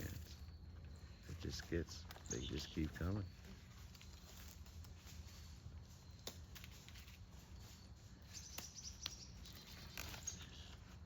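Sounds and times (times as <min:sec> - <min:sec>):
faint bird chirps: 0:00.0 - 0:04.4, 0:05.8 - 0:11.0
low steady hum: 0:00.0 - 0:11.0.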